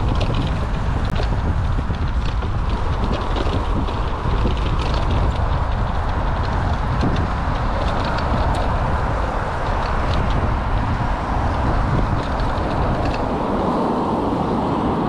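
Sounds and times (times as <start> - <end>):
bike rattling over rough ground: 0.0 - 14.5
wind and tyre noise: 0.0 - 15.0.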